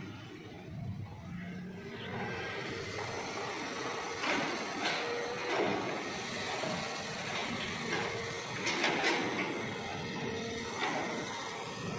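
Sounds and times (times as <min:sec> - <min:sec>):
excavator running: 0:00.0 - 0:11.9.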